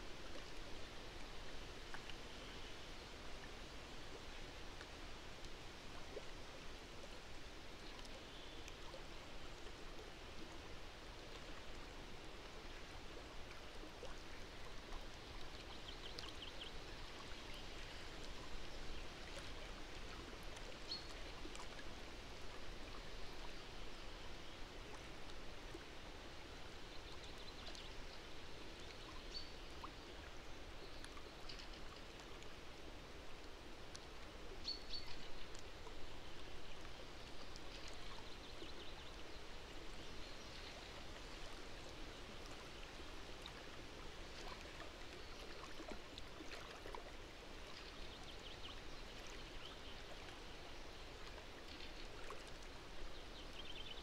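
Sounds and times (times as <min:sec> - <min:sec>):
soft steady hiss: 0:00.0 - 0:54.0.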